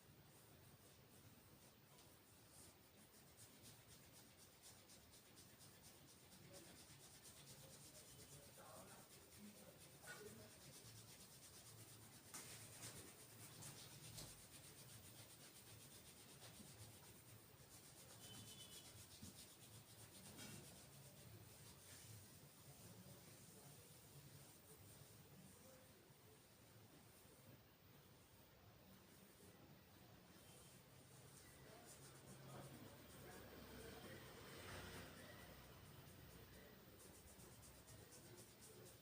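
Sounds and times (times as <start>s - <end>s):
hands rubbing skin and hair: 0.2s - 27.4s, 30.3s - 39.0s.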